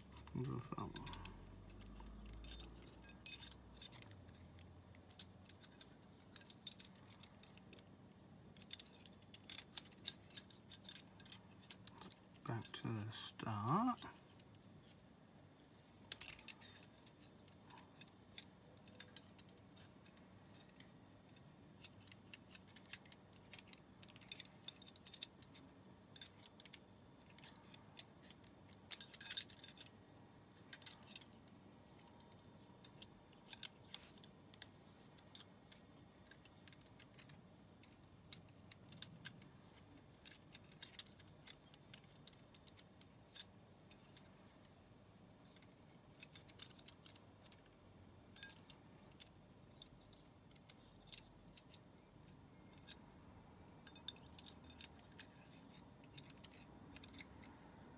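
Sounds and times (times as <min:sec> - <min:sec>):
metal ring clinking against metal: 0:00.0 - 0:07.9, 0:08.5 - 0:15.0, 0:16.1 - 0:57.7.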